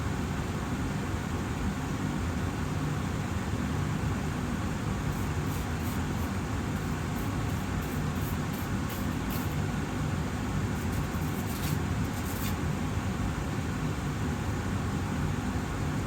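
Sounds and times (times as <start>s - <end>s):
air purifier running: 0.0s - 16.0s.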